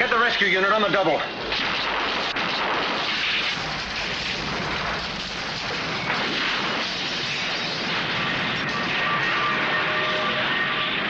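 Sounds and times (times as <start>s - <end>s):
explosions and scattering debris: 1.3s - 11.0s.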